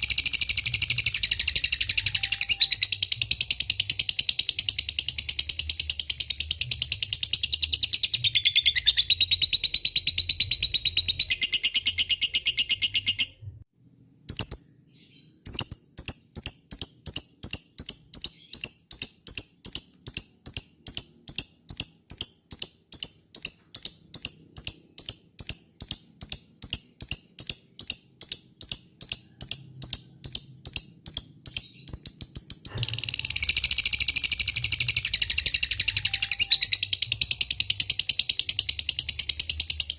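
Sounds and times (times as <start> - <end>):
lovebird sharp chirps: 0.0 - 13.5, 14.2 - 39.9.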